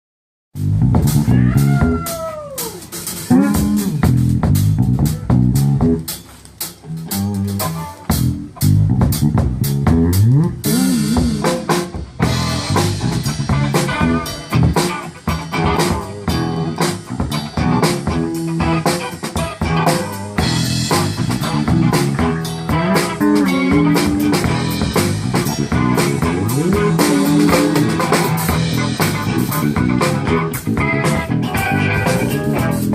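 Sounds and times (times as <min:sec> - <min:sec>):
bent guitar notes: 0:00.6 - 0:32.9
blues band playing: 0:00.6 - 0:32.9.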